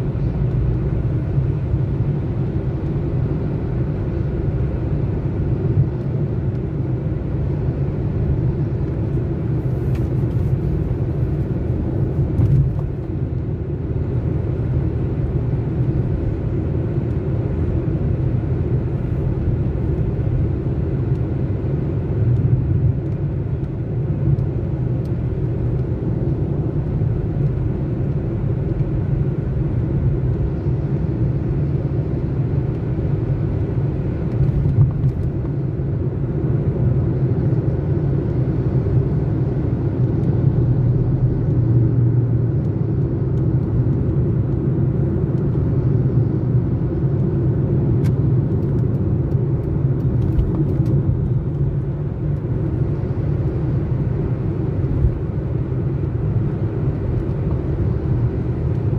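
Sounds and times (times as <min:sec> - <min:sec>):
car interior road rumble: 0:00.0 - 0:58.9.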